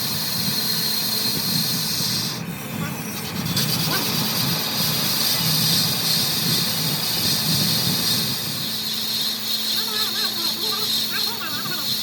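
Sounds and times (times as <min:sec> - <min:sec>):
workshop machinery running: 0:00.0 - 0:12.0.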